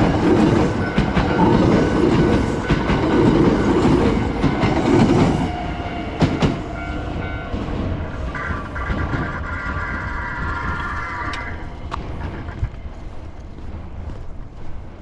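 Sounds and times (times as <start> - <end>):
train wheels clattering over rail joints: 0.0 - 14.5.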